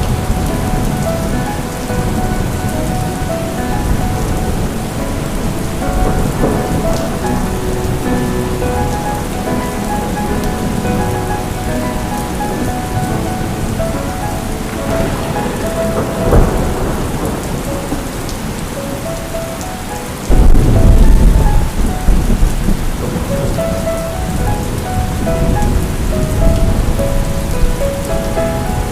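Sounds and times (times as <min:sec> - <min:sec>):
heavy rain: 0:00.0 - 0:28.9
rolling thunder: 0:00.0 - 0:28.9.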